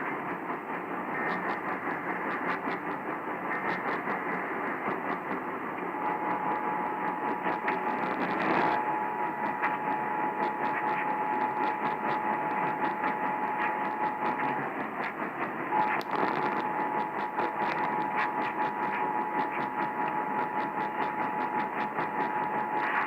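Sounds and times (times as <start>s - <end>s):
radio static hiss and crackle: 0.0s - 23.0s.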